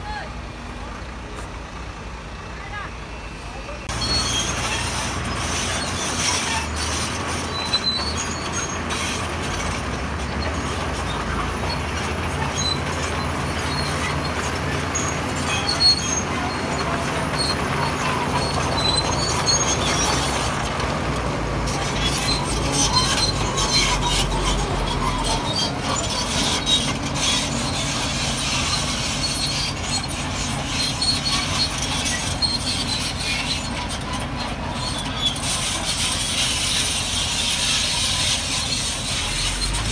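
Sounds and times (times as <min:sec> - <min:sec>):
diesel engine under load: 0:00.0 - 0:39.9
steel tracks squealing and clanking: 0:01.4 - 0:39.9.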